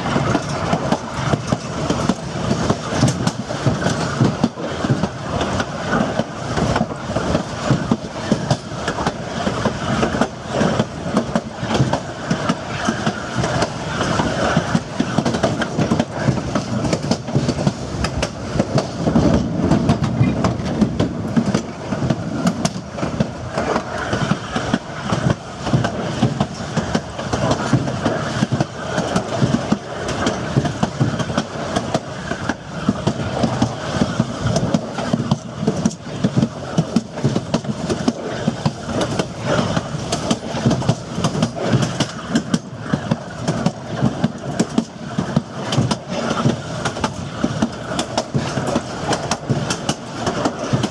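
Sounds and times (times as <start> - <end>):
train car rattling and knocking: 0.0 - 50.9
train wheels clicking over rail joints: 0.0 - 50.9.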